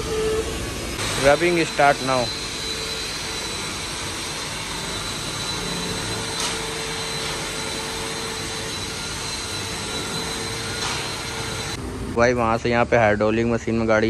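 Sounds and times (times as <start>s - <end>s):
polishing machine whine: 0.0s - 13.9s.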